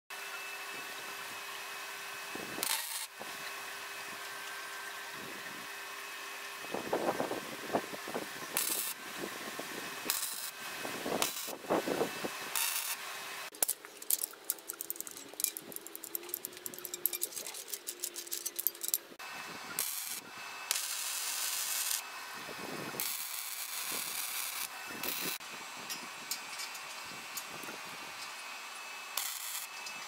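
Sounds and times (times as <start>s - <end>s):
welding arc crackling and sizzling: 2.3s - 5.1s, 6.7s - 18.6s, 19.5s - 30.0s.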